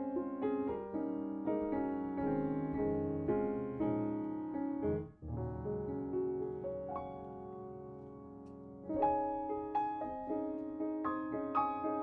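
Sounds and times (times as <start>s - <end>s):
piano playing held notes: 0.0s - 12.0s.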